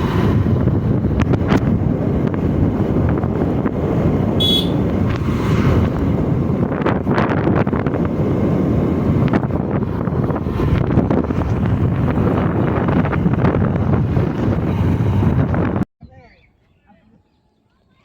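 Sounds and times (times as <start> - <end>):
motorcycle engine running: 0.0 - 15.3
wind buffeting microphone: 0.0 - 16.6.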